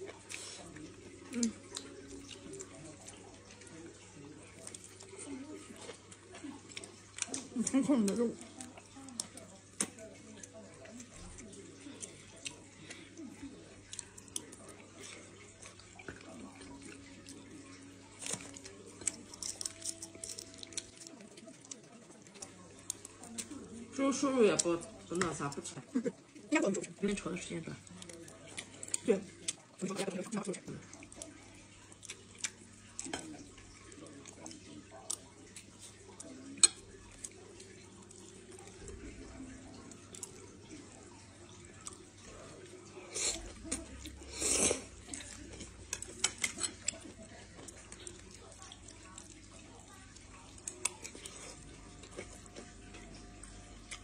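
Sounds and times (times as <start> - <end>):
close-up chewing: 0.0 - 54.0.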